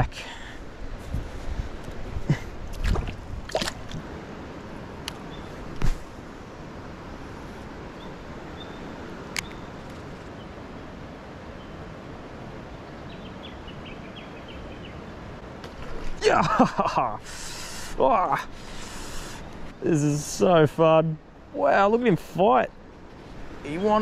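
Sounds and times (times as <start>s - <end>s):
river background noise: 0.0s - 24.0s.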